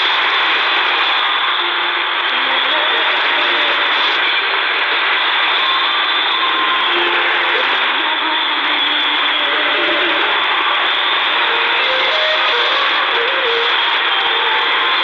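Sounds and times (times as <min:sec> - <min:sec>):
faint music through static: 0:00.0 - 0:15.0
radio static hiss: 0:00.0 - 0:15.0.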